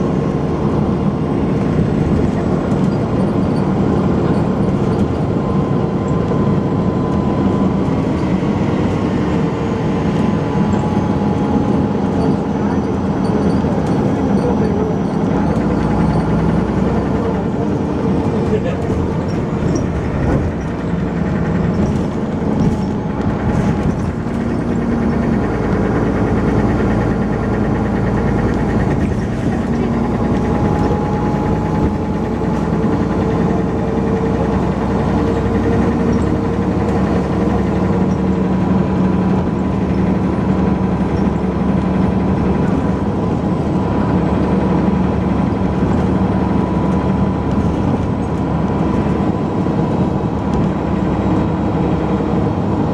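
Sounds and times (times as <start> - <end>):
bus diesel engine droning: 0.0 - 52.9.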